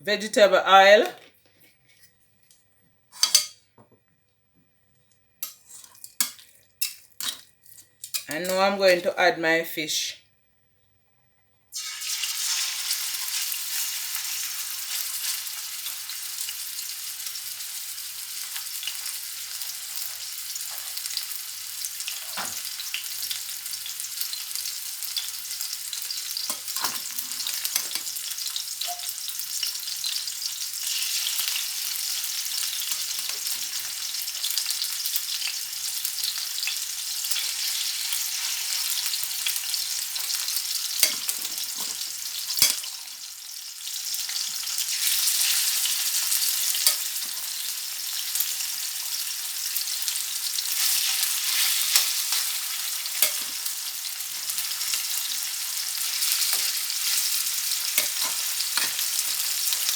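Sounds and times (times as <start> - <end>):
fish sizzling in hot oil: 11.7 - 59.9.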